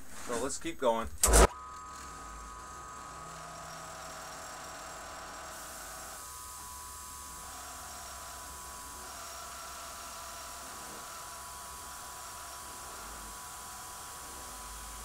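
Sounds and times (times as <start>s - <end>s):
milling machine whining: 1.2s - 15.0s.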